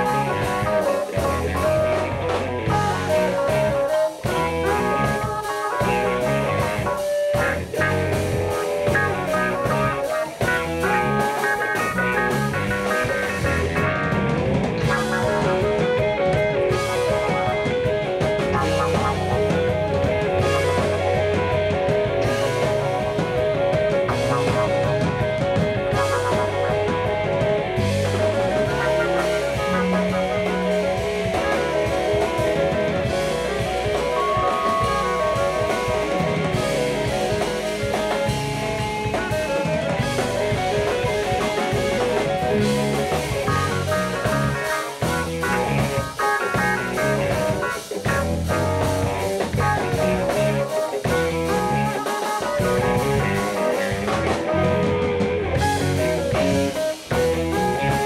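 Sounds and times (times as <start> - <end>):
drum kit: 0.0 - 58.0
electric guitar: 0.0 - 58.0
jazz-funk band playing: 0.0 - 58.0.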